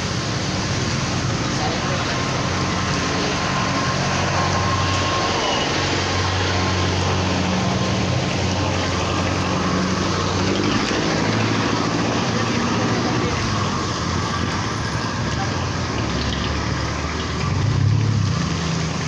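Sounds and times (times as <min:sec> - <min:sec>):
steady wash of noise: 0:00.0 - 0:19.0
vehicle engines running: 0:00.0 - 0:19.0.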